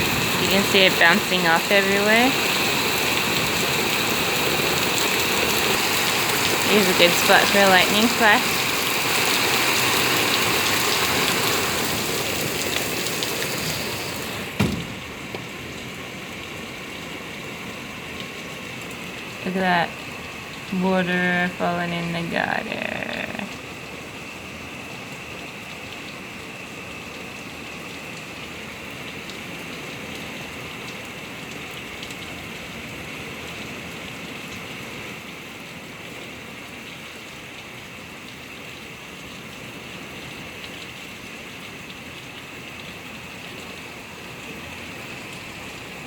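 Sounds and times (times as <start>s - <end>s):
heavy rain pouring: 0.0s - 46.0s
water falling from gutter: 0.0s - 46.0s.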